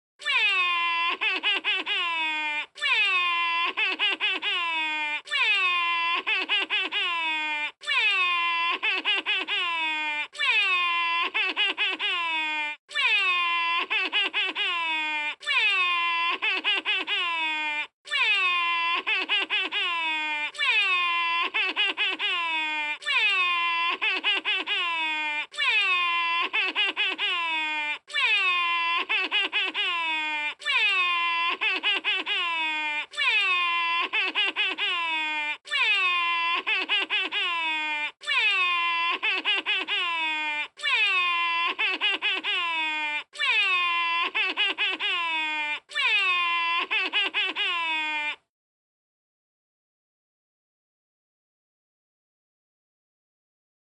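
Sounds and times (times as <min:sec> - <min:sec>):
cartoon voice crying: 0:00.2 - 0:48.5.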